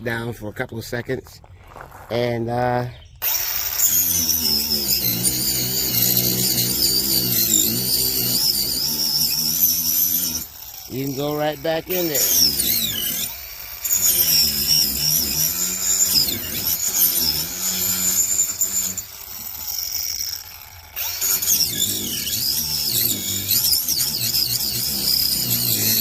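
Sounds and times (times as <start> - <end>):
angle grinder cutting wood: 3.2 - 26.0.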